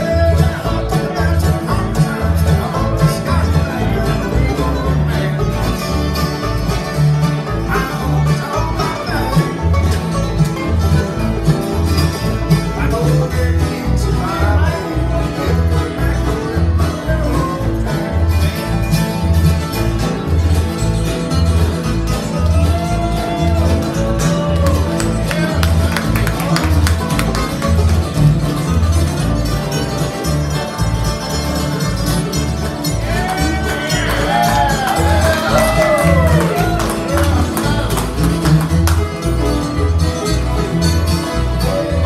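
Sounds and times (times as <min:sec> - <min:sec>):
acoustic guitar picking: 0:00.0 - 0:42.0
banjo picking: 0:00.0 - 0:42.0
steady bass line: 0:00.0 - 0:42.0.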